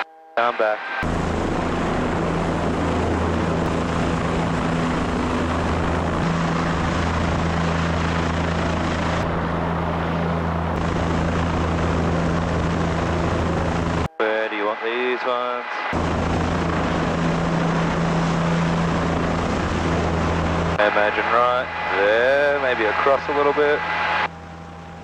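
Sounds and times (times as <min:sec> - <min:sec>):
helicopter hovering: 0:01.0 - 0:25.0.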